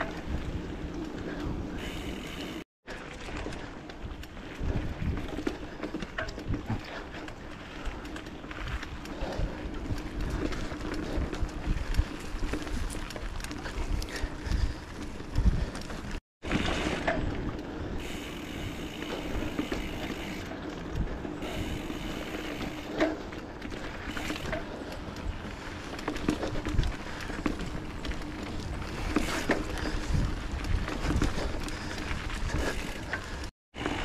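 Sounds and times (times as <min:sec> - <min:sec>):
bike rattling over bumps: 0:00.0 - 0:34.0
bike tyres rolling on dirt: 0:00.0 - 0:34.0
wind buffeting microphone: 0:03.2 - 0:34.0.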